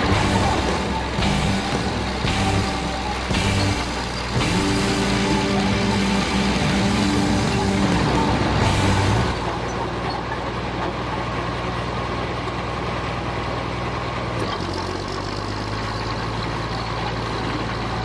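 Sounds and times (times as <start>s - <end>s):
bulldozer diesel engine idling: 0.0s - 18.0s.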